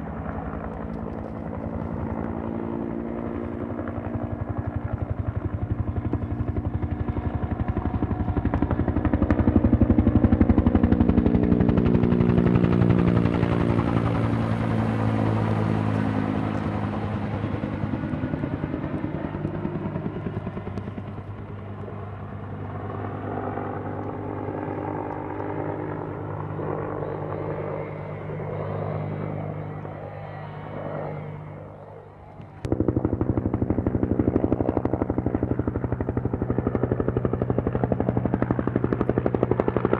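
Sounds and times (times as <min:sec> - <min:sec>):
helicopter passing overhead: 0:00.0 - 0:39.9.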